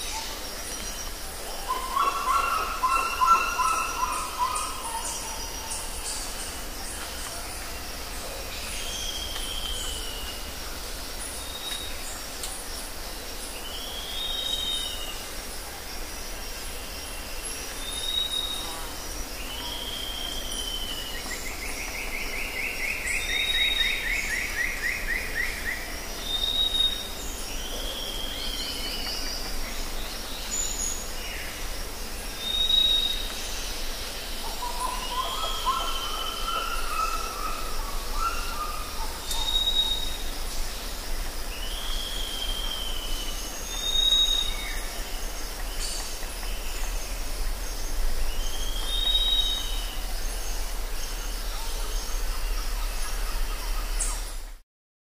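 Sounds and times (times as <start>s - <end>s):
steady high hiss: 0.0s - 54.6s.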